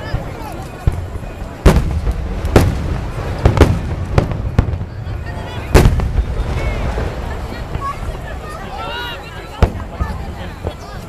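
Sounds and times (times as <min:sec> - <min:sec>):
crowd chatter: 0:00.0 - 0:11.0
fireworks booming: 0:00.0 - 0:11.0.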